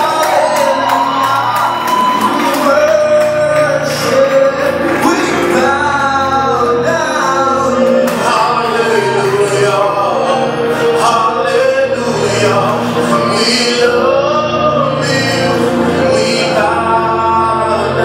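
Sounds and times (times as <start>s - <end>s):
voices singing gospel: 0.0s - 18.0s.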